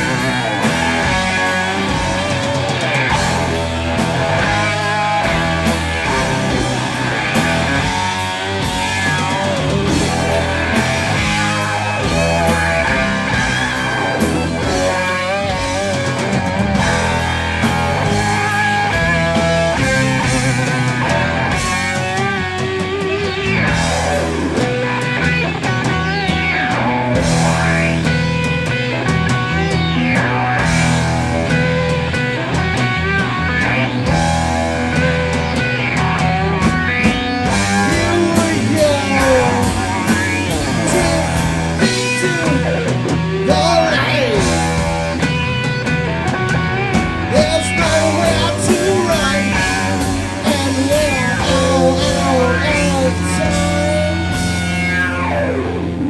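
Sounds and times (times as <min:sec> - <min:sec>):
bass guitar: 0:00.0 - 0:56.0
distorted electric guitar: 0:00.0 - 0:56.0
drums with cymbal hits: 0:00.0 - 0:56.0.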